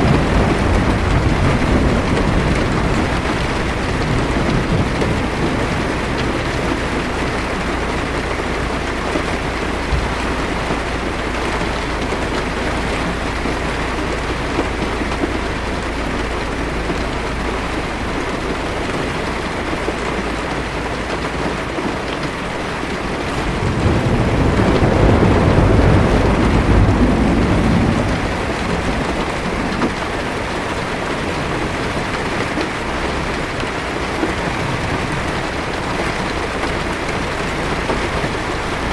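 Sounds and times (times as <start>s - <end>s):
thunder rolling: 0.0s - 20.6s, 21.7s - 38.9s
heavy rain on a car: 0.0s - 38.9s.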